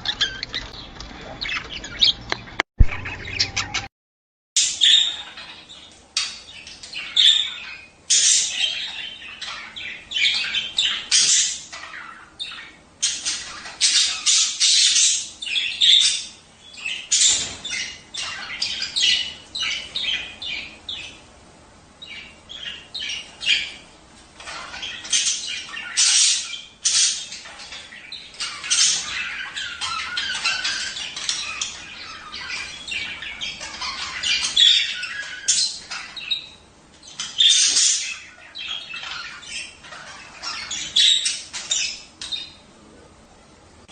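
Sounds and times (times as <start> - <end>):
budgerigars chattering and squawking: 0.0 - 3.9, 4.6 - 21.3, 22.0 - 42.7.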